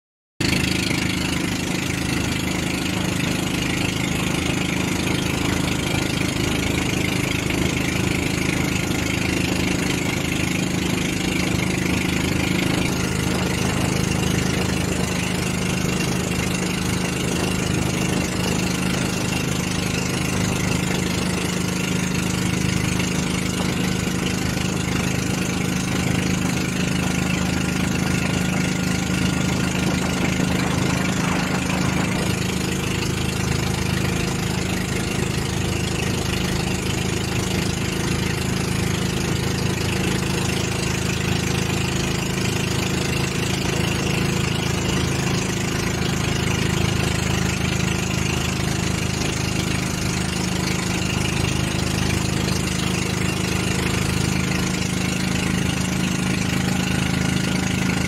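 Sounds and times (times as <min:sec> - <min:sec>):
boat engine running: 0:00.4 - 0:58.0.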